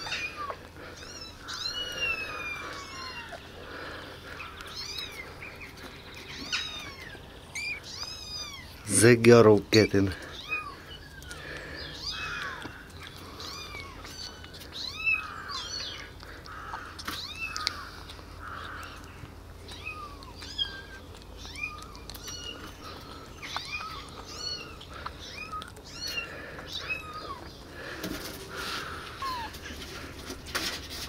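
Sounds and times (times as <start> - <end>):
kittens mewing: 0.0 - 31.0.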